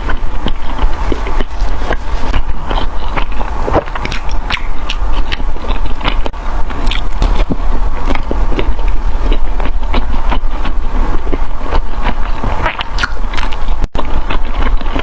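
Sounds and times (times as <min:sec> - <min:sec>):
crunchy bites and chewing: 0:00.0 - 0:15.0
low rumble: 0:00.0 - 0:15.0.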